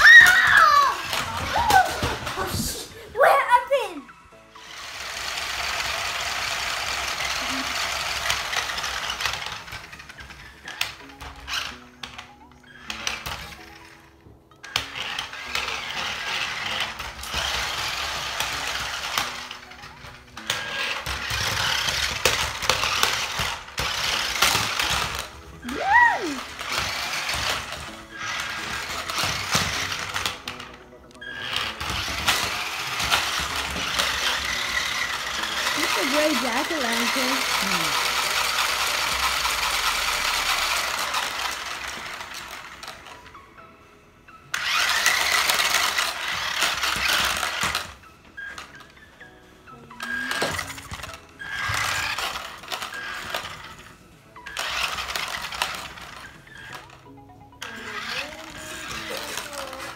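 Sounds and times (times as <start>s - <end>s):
toy car motors whirring: 0.0s - 3.0s, 4.5s - 43.4s, 44.5s - 49.0s, 49.9s - 59.9s.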